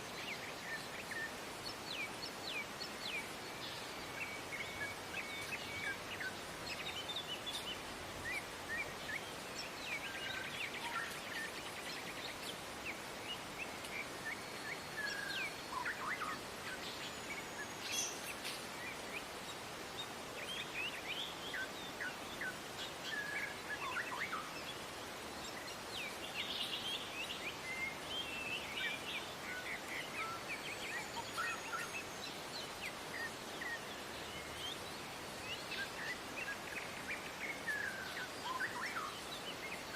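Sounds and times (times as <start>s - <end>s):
steady background hiss: 0.0s - 39.9s
wild birds chirping: 0.0s - 39.9s.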